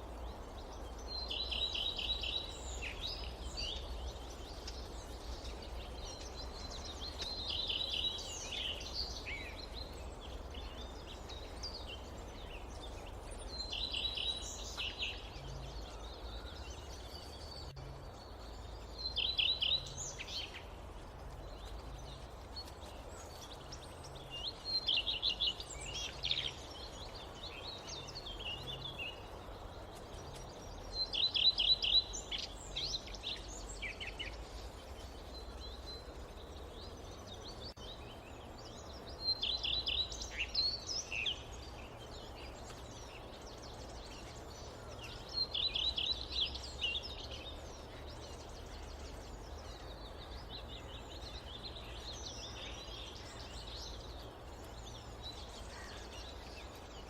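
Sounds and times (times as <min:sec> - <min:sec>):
forest background hiss: 0:00.0 - 0:57.0
songbird singing: 0:00.0 - 0:57.0.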